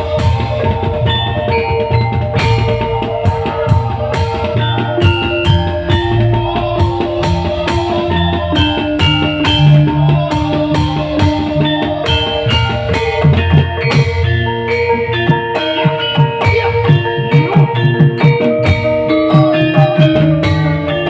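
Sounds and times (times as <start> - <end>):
bass: 0.0 - 21.0
live band music: 0.0 - 21.0
plucked guitar: 0.0 - 21.0
steady drum beat: 0.0 - 21.0.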